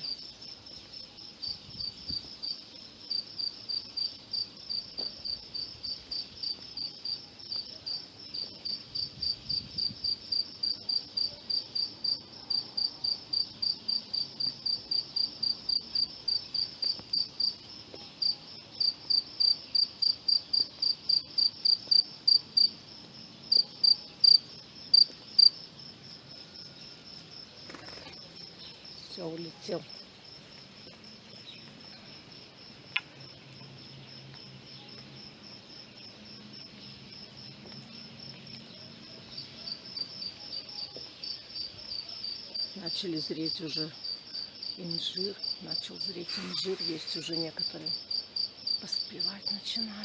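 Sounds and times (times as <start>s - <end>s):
cricket chirping: 0.0s - 50.0s.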